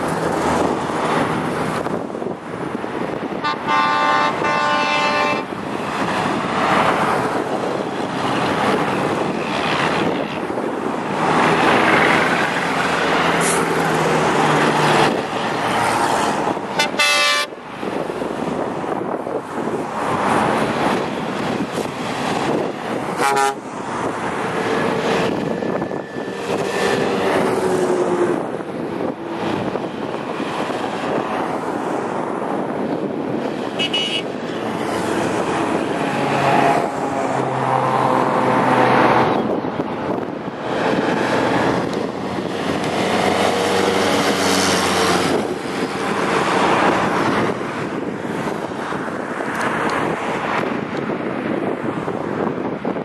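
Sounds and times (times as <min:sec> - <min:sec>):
trucks driving past: 0:00.0 - 0:53.0.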